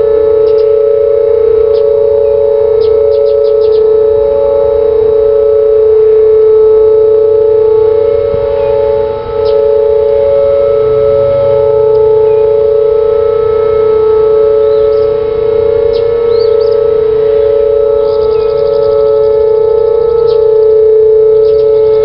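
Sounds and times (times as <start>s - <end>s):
outdoor warning sirens: 0.0s - 22.0s.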